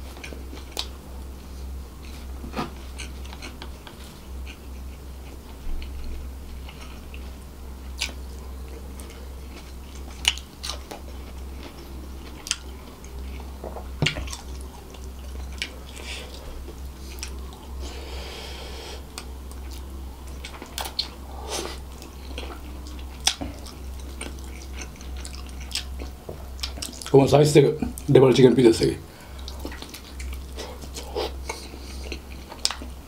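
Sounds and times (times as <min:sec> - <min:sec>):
low steady hum: 0:00.0 - 0:33.0
chewing and biting food: 0:00.1 - 0:17.8, 0:19.0 - 0:27.2, 0:29.3 - 0:33.0.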